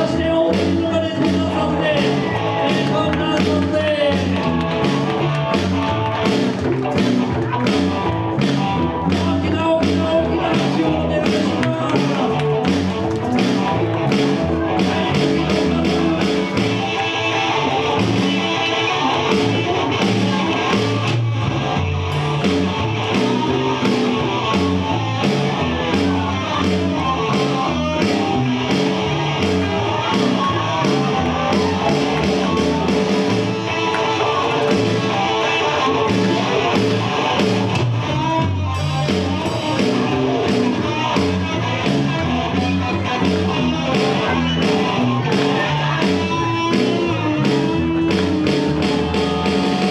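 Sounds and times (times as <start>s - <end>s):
live rock and roll band: 0.0s - 49.9s.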